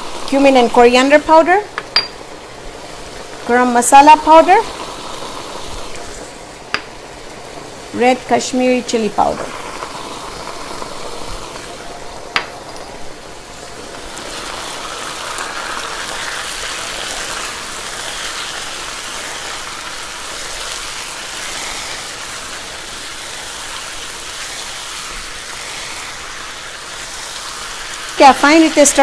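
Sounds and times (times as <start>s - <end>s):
chicken sizzling in a wok: 0.0s - 29.0s.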